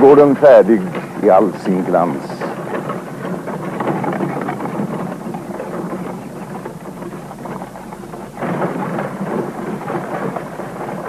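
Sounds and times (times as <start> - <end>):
carriage wheels crunching gravel: 0.0 - 11.0.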